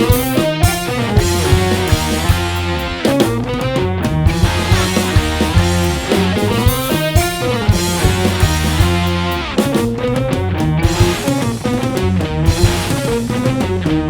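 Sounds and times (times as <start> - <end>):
bass guitar: 0.0 - 14.0
drum kit: 0.0 - 14.0
electric guitars: 0.0 - 14.0.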